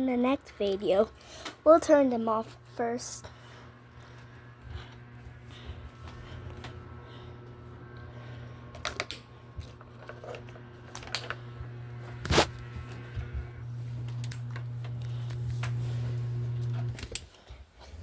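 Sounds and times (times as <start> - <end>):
ceiling fans humming: 0.0 - 18.0.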